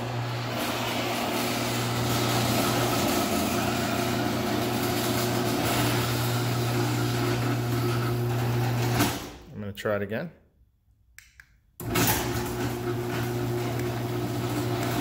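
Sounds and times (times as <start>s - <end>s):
garage door opener motor humming: 0.0s - 9.5s, 11.8s - 15.0s.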